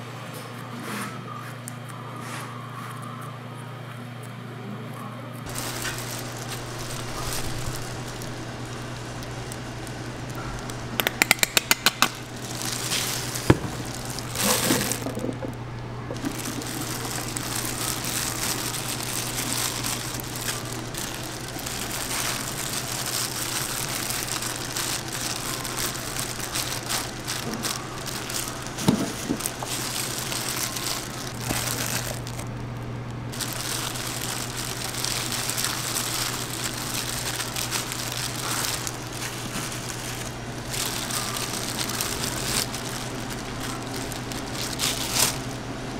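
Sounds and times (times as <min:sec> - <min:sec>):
steady low hum: 0:00.0 - 0:45.9
cheese and meat rustling: 0:05.4 - 0:45.9
plastic gloves crinkling: 0:05.4 - 0:45.9.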